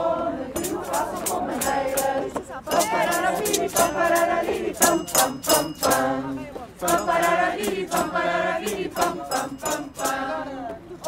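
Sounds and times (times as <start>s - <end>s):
mixed choir singing in unison: 0.0s - 11.0s.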